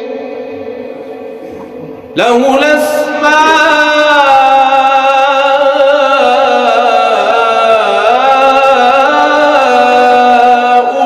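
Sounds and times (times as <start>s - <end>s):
man chanting melodically: 1.5s - 11.0s.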